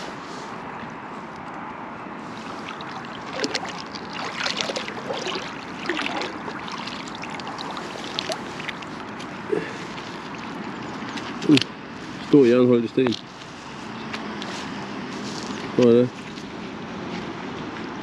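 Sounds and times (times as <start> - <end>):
water splashing and trickling: 2.2 - 14.0, 15.2 - 18.0.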